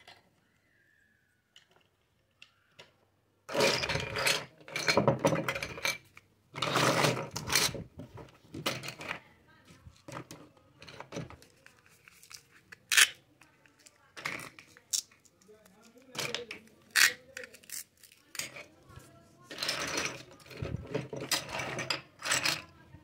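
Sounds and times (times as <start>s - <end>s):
plastic toys clattering: 1.5s - 23.0s.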